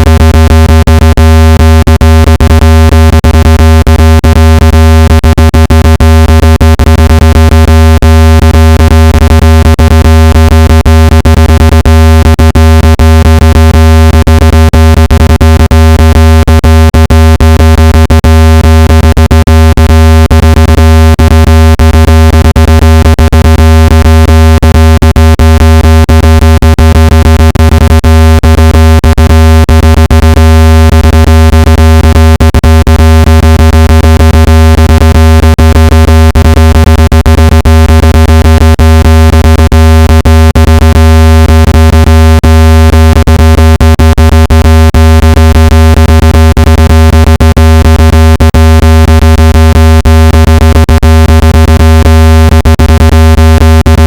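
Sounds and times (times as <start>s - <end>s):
loud low buzz tone: 0.0s - 54.0s.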